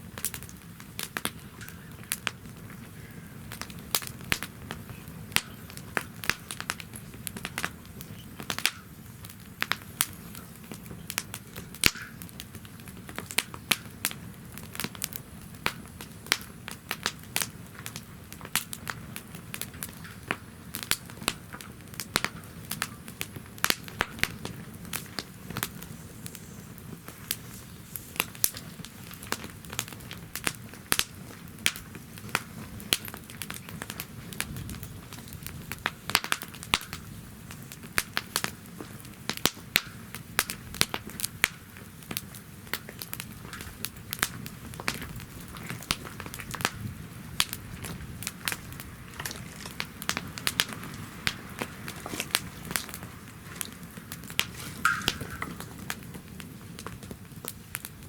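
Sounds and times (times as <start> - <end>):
wood fire crackling and popping: 0.0 - 58.0
rush of flame: 0.1 - 58.0.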